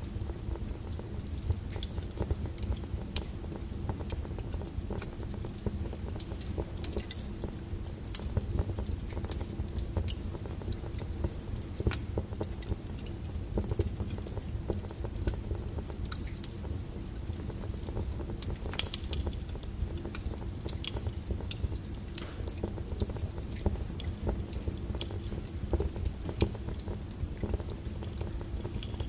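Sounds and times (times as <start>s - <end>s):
burning logs crackling and popping: 0.0s - 29.0s
flames rumbling: 0.0s - 29.0s.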